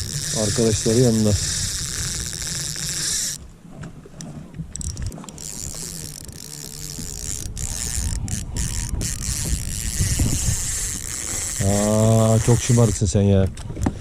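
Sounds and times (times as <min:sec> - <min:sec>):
small mechanism clicking and whirring: 0:00.0 - 0:03.4, 0:04.2 - 0:13.1.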